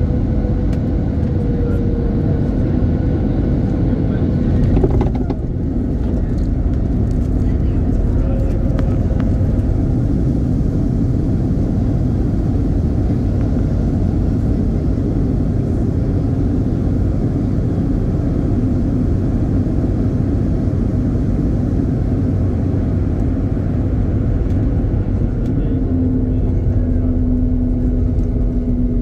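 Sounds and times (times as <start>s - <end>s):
airliner cabin rumble: 0.0s - 29.0s.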